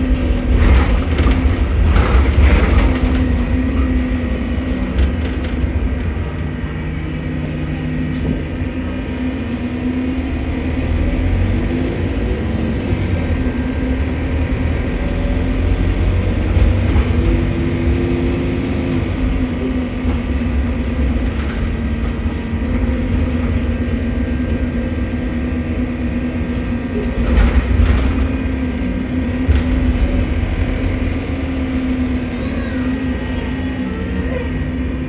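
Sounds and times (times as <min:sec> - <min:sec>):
bus engine rumbling: 0:00.0 - 0:35.0.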